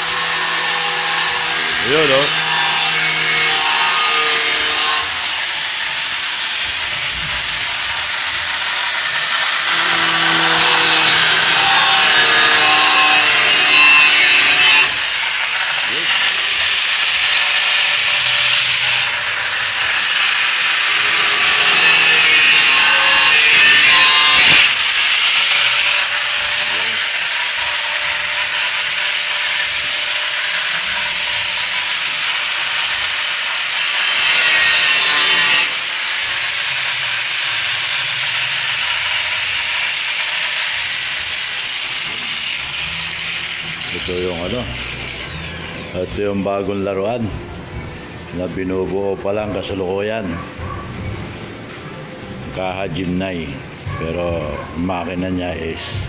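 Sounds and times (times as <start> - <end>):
power tool rasping hiss: 0.0 - 45.9.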